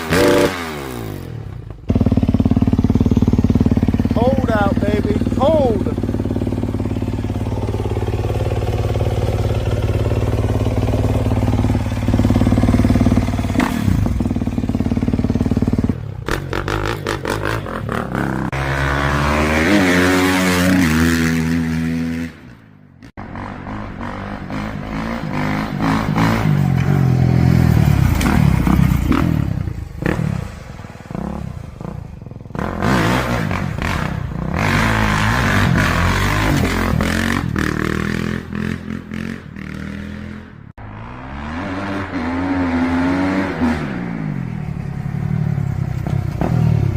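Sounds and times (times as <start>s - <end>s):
motocross engine revving: 0.0s - 22.5s, 23.1s - 44.6s.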